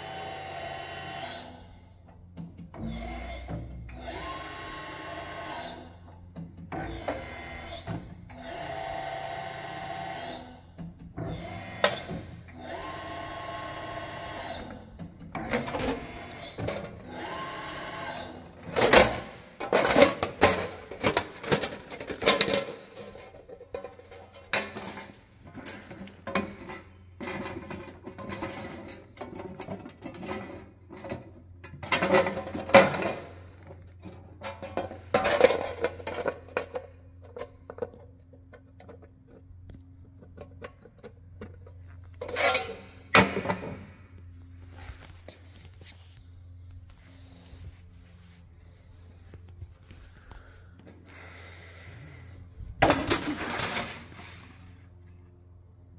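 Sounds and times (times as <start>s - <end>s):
rolling machine motor whine: 0.0s - 55.9s.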